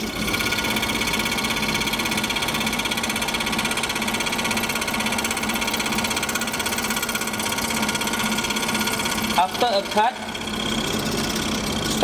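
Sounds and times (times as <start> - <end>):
scroll saw cutting: 0.0 - 12.0.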